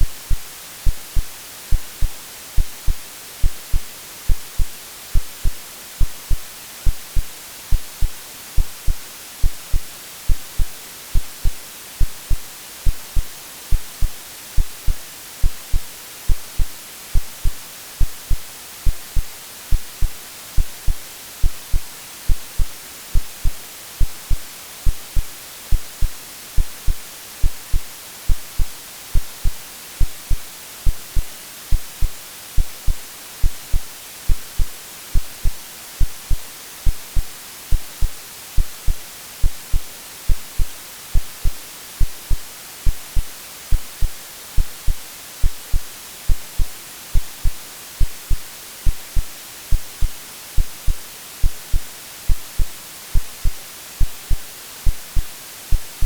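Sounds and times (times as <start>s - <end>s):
heartbeat thumps: 0.0s - 56.0s
white noise hiss: 0.0s - 56.0s.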